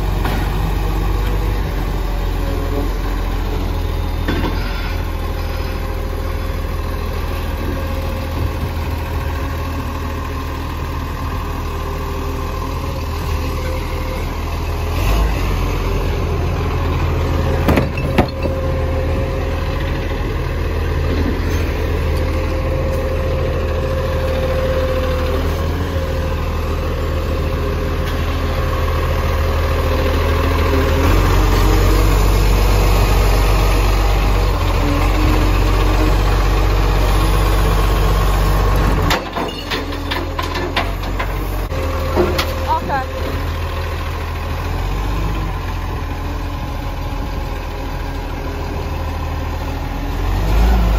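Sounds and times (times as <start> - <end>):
garbage truck diesel engine idling: 0.0 - 14.9, 18.4 - 39.0, 39.8 - 50.2.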